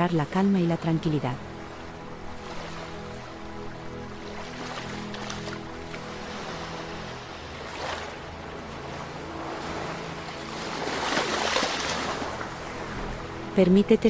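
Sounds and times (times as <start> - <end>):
ocean waves washing in: 1.4 - 14.0.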